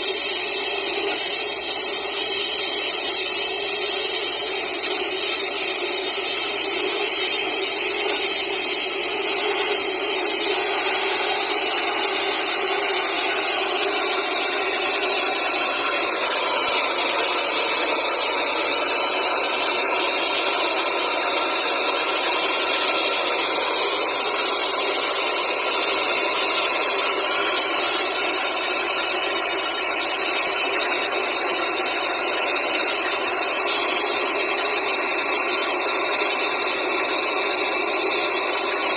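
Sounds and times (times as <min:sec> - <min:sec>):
air compressor running: 0:00.0 - 0:38.9
rushing hiss of air and water: 0:00.0 - 0:38.9.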